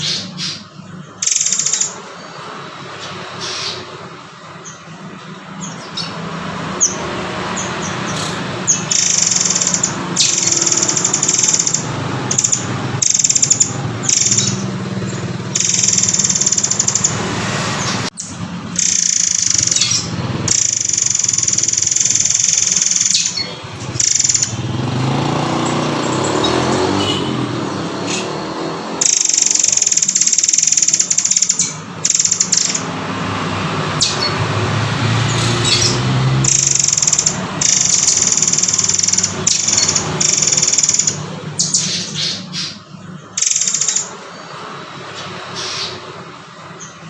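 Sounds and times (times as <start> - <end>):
high buzzy bird chattering: 0.0 - 47.0.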